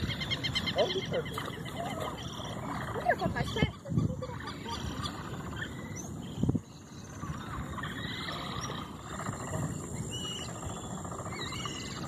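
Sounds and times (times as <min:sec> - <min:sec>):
high wavering chirps and whistles: 0:00.0 - 0:12.0.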